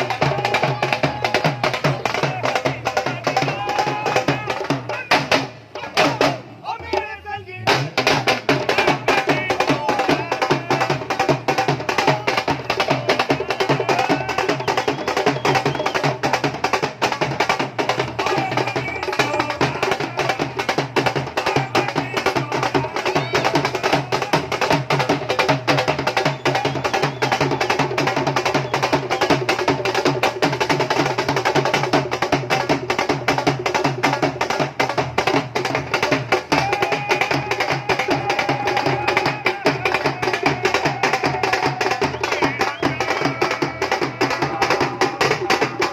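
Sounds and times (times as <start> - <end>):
dhol drumming: 0.0 - 45.9.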